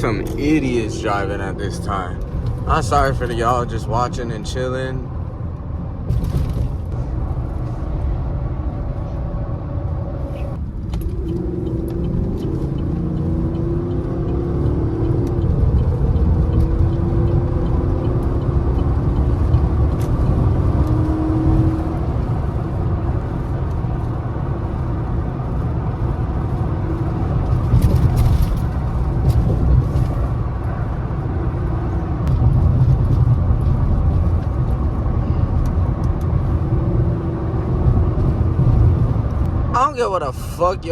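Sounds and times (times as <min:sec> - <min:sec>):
pickup truck engine and road rumble: 0:00.0 - 0:40.9.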